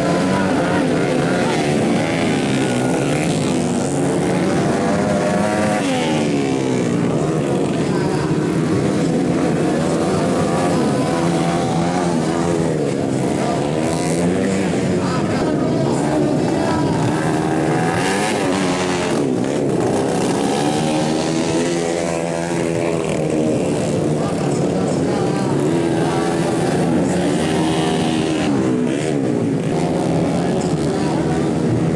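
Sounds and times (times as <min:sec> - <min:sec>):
motocross bike engines revving: 0:00.0 - 0:31.9.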